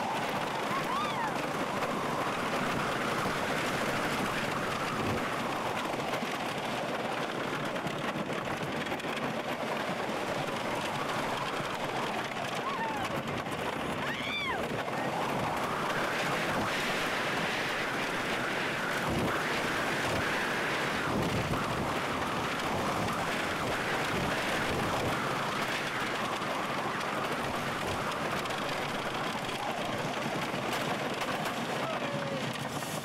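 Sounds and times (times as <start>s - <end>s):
wind on microphone: 0.0s - 31.2s
wheels rumbling on wooden track: 0.0s - 33.0s.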